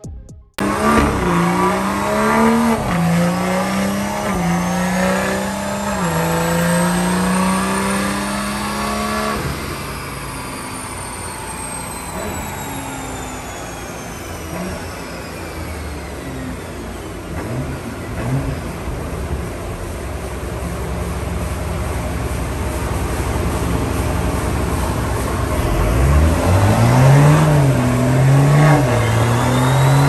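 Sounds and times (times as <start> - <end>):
car engine revving: 0.6 - 30.0
high turbo whine: 0.6 - 30.0.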